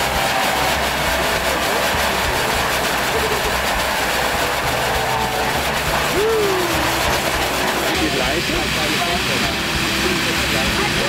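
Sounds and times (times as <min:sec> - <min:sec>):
firework wheel hissing: 0:00.0 - 0:11.0.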